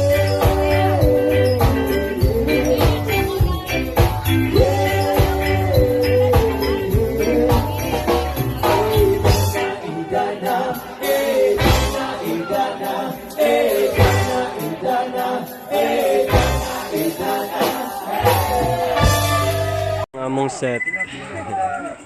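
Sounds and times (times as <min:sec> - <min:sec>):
song with singing voice: 0:00.0 - 0:20.1.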